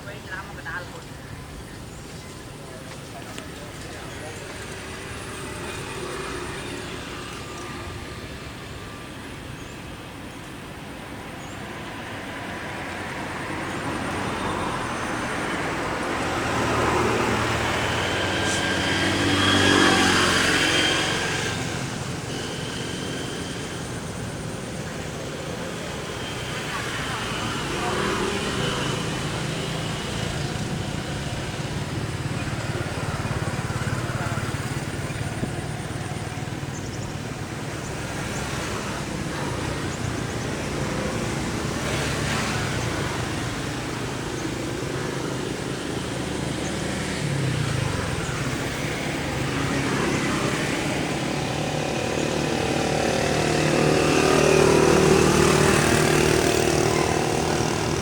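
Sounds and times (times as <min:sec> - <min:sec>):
vehicle engines passing: 0:00.0 - 0:58.0.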